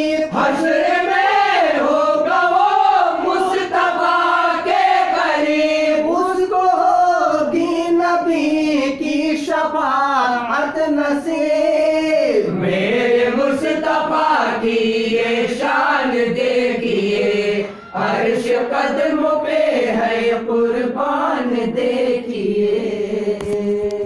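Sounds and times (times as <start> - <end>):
group of voices singing: 0.0 - 24.0.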